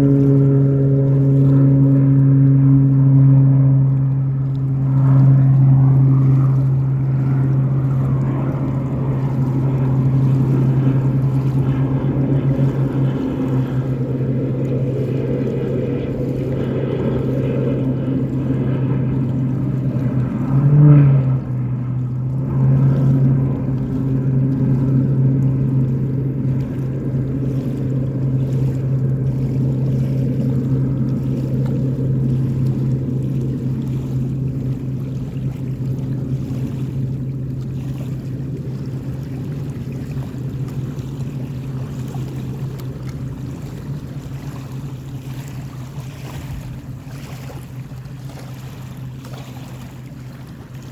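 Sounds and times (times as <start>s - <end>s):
turboprop engine droning: 0.0s - 50.9s.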